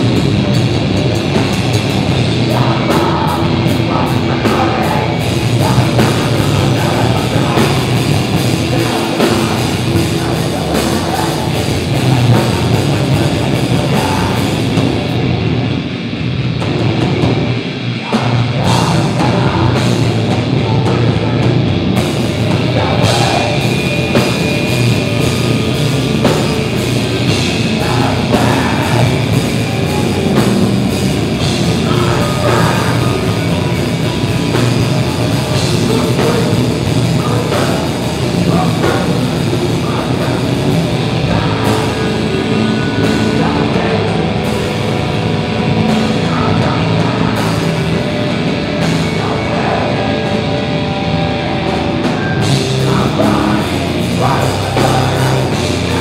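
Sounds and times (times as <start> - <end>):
distorted electric guitars and bass: 0.0 - 56.0
pounding drum kit: 0.0 - 56.0.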